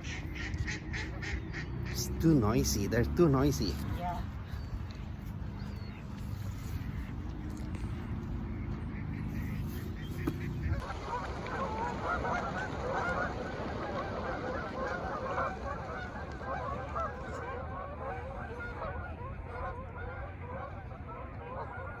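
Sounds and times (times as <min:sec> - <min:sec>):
geese and ducks honking: 0:00.0 - 0:22.0.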